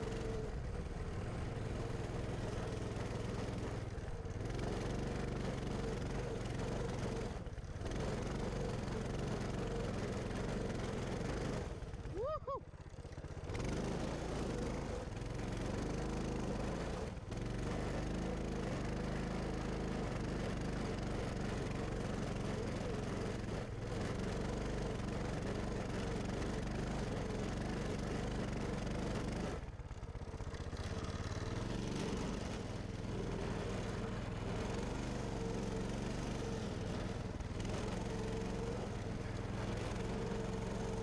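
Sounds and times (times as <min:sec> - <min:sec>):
mini bike engine revving: 0:00.0 - 0:41.0.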